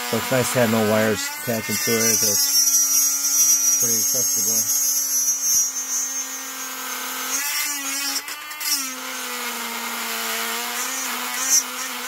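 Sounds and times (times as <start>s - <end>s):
rotary tool cutting: 0.0s - 12.0s.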